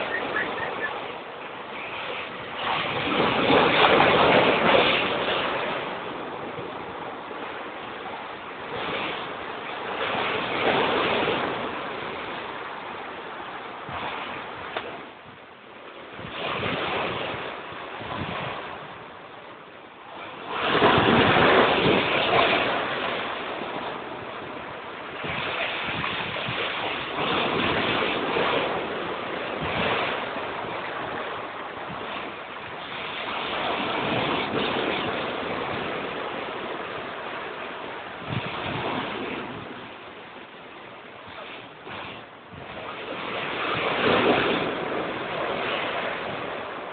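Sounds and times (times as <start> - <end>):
storm waves breaking on seawall: 0.0 - 46.9.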